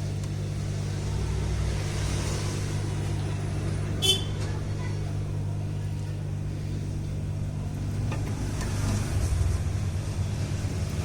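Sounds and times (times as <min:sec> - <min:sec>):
hot-air blower humming and hissing: 0:00.0 - 0:11.0.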